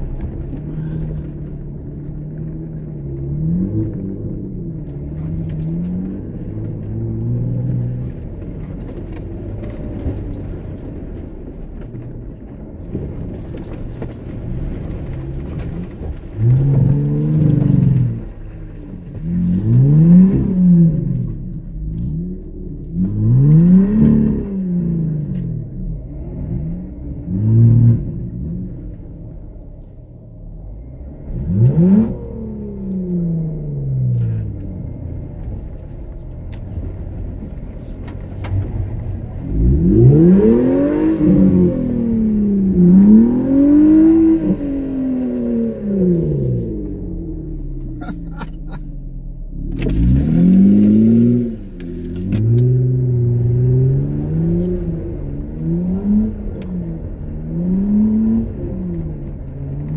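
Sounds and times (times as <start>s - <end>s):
engine revving in mud: 0.0s - 11.7s, 12.9s - 29.1s, 30.6s - 59.9s.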